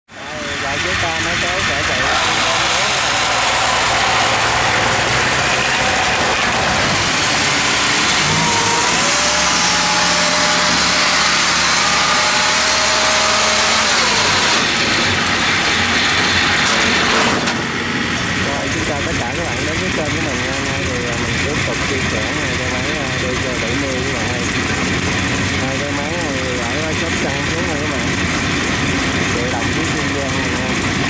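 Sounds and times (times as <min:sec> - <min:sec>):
small engine running: 0:00.1 - 0:31.0.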